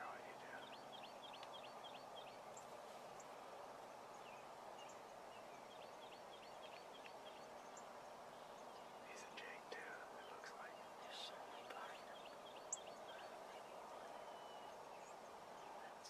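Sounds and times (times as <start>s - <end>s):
steady soft hiss: 0.0s - 16.0s.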